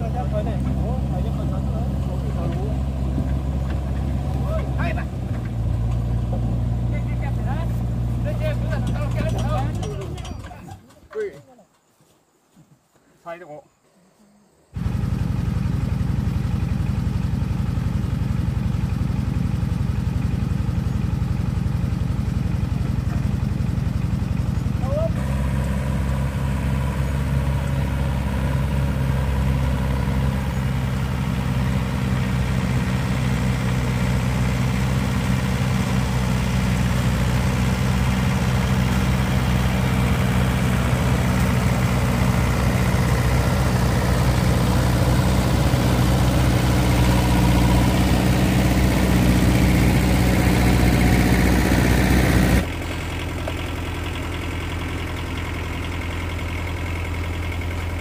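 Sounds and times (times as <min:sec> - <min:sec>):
tractor diesel engine idling: 0:00.0 - 0:11.4, 0:14.8 - 0:58.0.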